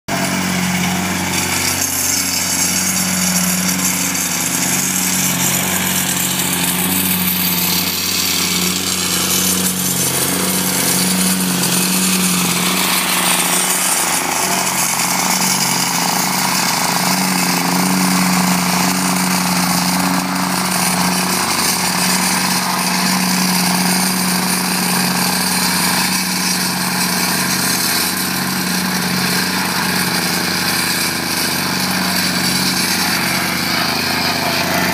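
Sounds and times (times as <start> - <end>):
plate compactor running: 0.1 - 34.9.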